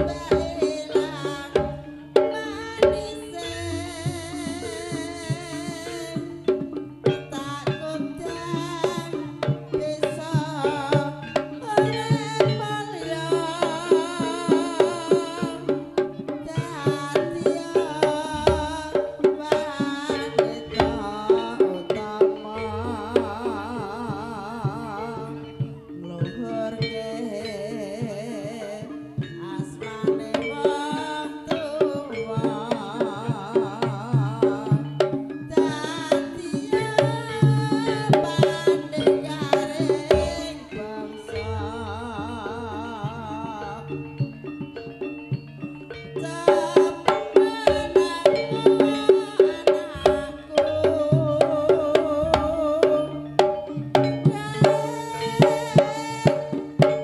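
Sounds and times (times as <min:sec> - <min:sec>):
hand drums beating: 0:00.0 - 0:57.0.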